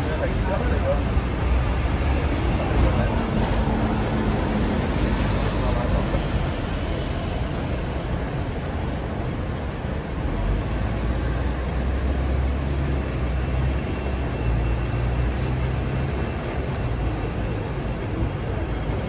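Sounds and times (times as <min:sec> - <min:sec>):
tram wheels and motor rumbling: 0:00.0 - 0:19.0.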